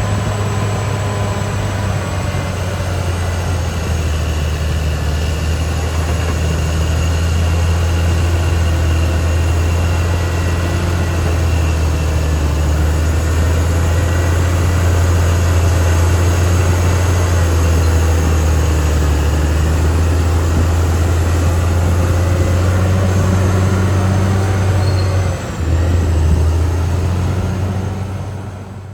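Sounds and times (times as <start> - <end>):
bulldozer diesel engine drone: 0.0 - 28.9.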